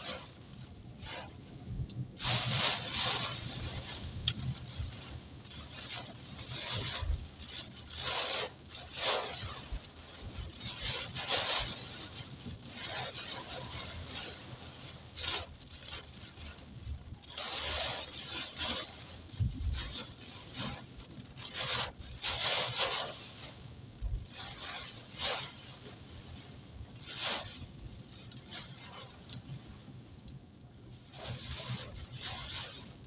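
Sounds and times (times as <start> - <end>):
low road and engine rumble: 0.0 - 33.0
rain on car body and glass: 0.0 - 33.0
windshield wipers swishing: 0.0 - 33.0.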